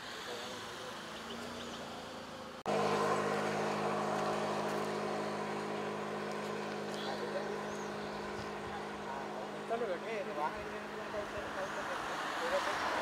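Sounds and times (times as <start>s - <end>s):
outdoor background noise: 0.0s - 13.0s
vehicle engine idling: 0.2s - 13.0s.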